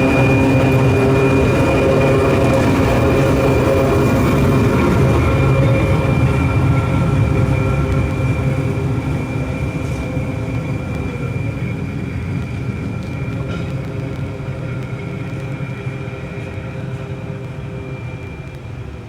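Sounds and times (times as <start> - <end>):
electric tram humming: 0.0 - 19.0.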